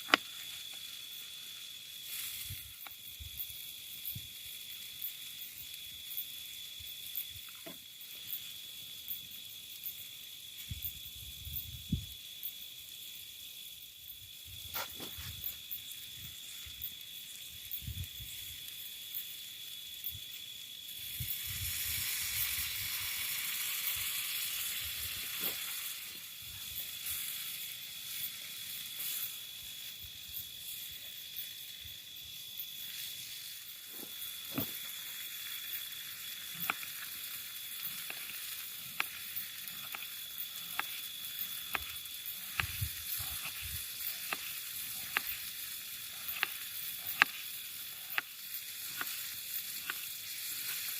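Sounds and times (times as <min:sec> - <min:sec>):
food sizzling in a frying pan: 0:00.0 - 0:50.9.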